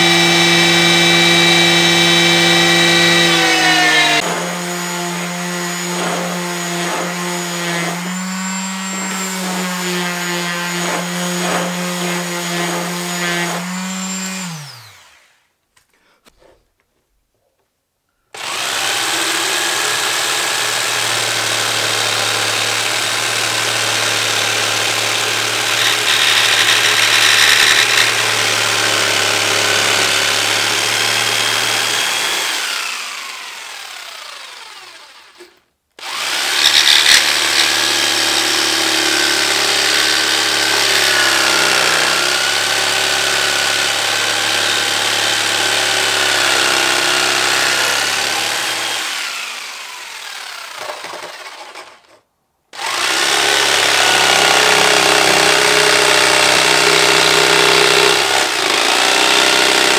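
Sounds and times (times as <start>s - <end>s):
electric jigsaw cutting wood: 0.0s - 15.5s, 18.4s - 59.9s.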